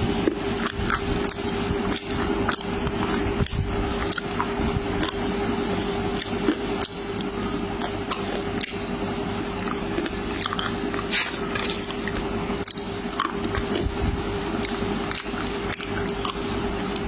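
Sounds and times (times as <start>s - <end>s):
person chewing soft food: 0.0s - 17.0s
steady background hum: 0.0s - 17.0s.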